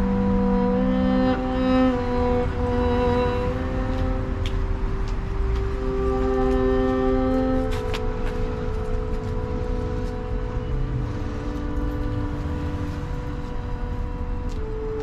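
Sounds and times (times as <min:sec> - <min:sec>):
flute sustained notes: 0:00.0 - 0:15.0
low rumble of street traffic: 0:00.0 - 0:15.0
violin sustained notes: 0:00.0 - 0:15.0.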